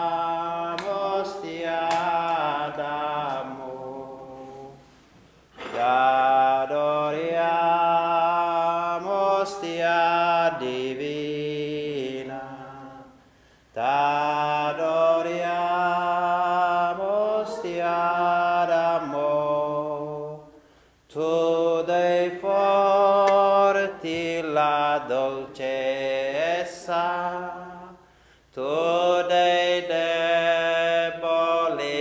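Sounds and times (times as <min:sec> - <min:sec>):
slow hymn singing: 0:00.0 - 0:32.0.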